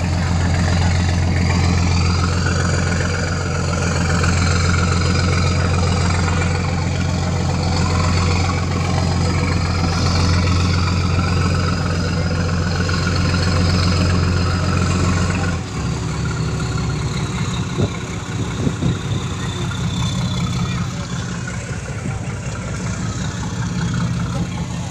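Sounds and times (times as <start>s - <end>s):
ferry diesel engines droning: 0.0s - 24.9s.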